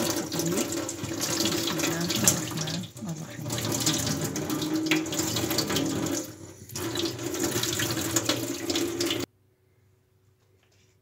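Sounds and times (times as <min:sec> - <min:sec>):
tap water running onto plate: 0:00.0 - 0:09.3.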